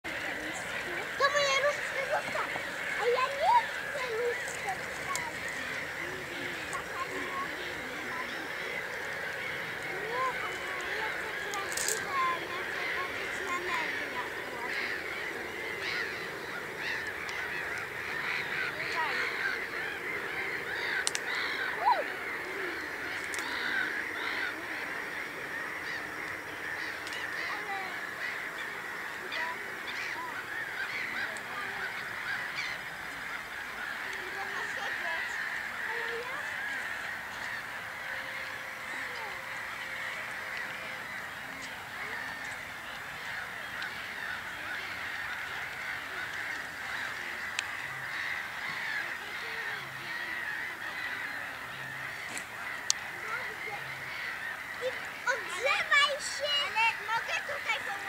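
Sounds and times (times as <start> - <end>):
chorus of small animal calls: 0.0 - 58.0.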